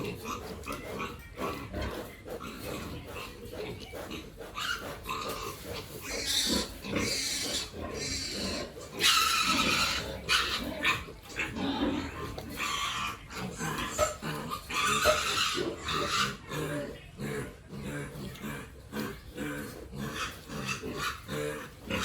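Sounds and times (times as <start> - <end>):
pigs squealing and grunting: 0.0 - 22.0.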